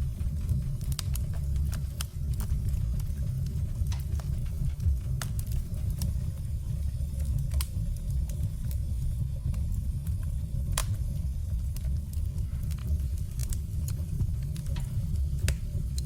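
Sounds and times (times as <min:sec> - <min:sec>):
fire low rumble: 0:00.0 - 0:16.0
firewood crackling and popping: 0:00.0 - 0:16.0.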